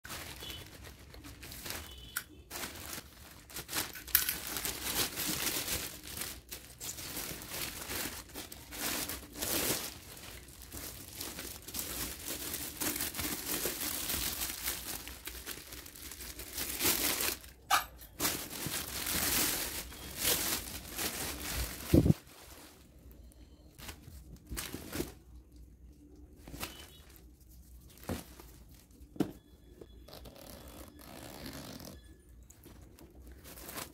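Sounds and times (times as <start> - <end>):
plastic packaging crinkling: 0.1 - 33.9.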